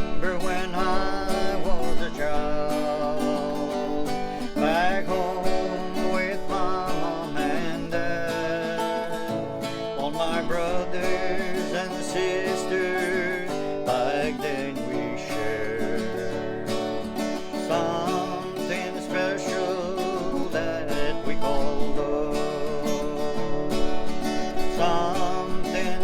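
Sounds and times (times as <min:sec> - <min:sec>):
country music with acoustic guitar: 0:00.0 - 0:26.0.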